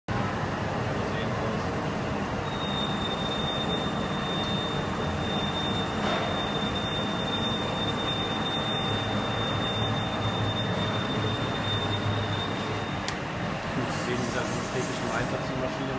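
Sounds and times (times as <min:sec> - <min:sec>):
high-pitched machine whine: 0:02.4 - 0:15.9.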